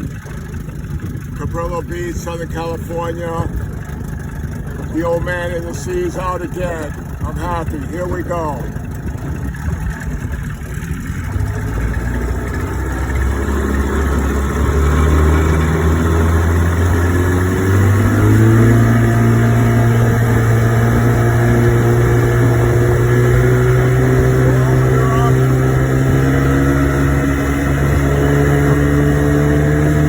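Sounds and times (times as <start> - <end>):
outboard motor throttling up: 0.0 - 30.0.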